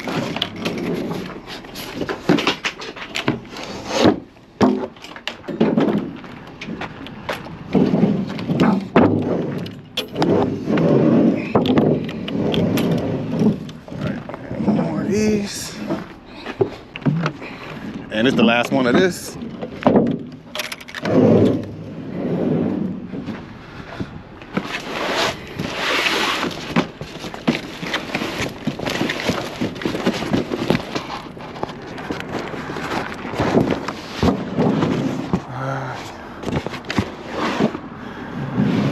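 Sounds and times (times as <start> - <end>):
cans and boxes scraping and sliding: 0.0 - 4.9, 7.7 - 19.8, 21.0 - 24.0, 24.6 - 38.9.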